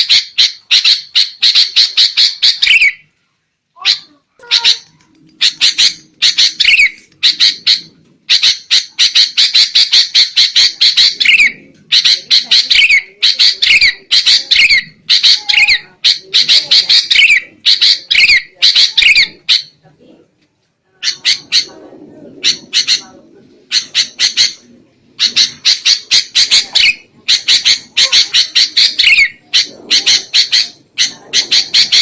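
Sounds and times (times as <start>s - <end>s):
bulbuls chattering: 3.8s - 32.0s.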